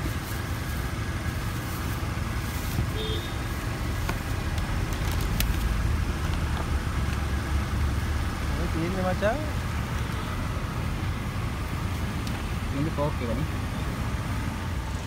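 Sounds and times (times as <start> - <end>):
passing road traffic rumble: 0.0 - 15.0.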